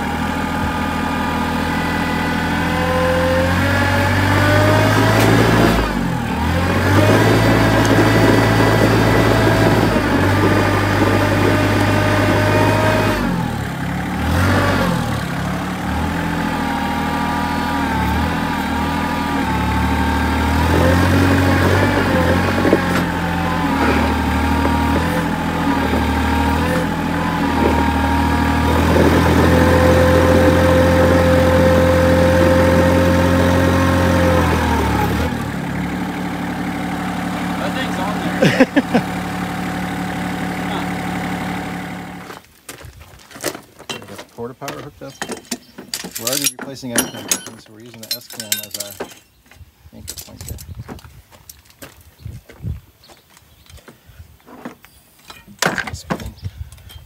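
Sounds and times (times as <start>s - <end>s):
hydraulics whining: 0.0s - 42.5s, 43.5s - 49.4s
tractor engine running: 0.0s - 42.8s, 43.4s - 49.4s.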